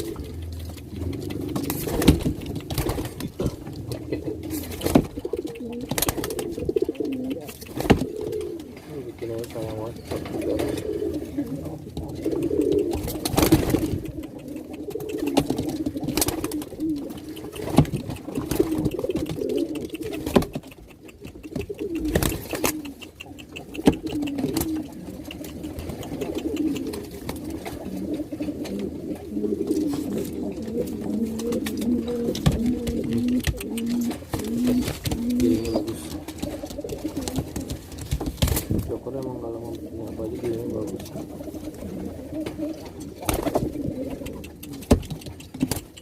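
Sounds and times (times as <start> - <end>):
pigeon cooing: 0.0 - 37.9, 38.6 - 46.0.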